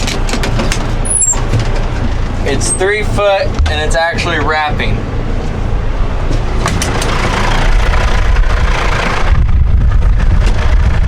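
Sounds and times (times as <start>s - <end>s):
round baler working: 0.0s - 11.0s
tractor engine running: 0.0s - 11.0s.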